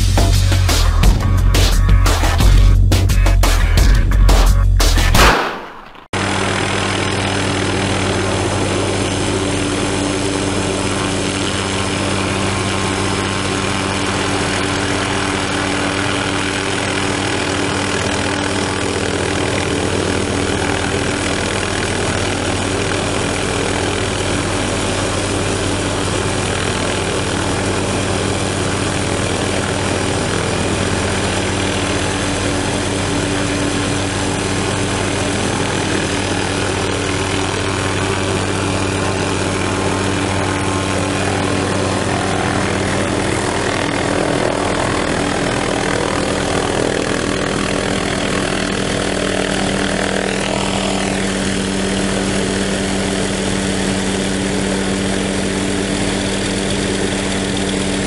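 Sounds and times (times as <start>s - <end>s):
helicopter hovering: 0.0s - 5.4s, 6.0s - 58.0s.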